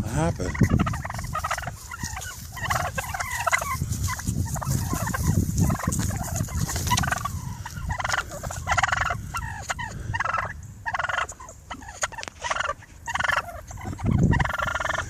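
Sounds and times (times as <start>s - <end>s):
turkeys gobbling: 0.0s - 15.0s.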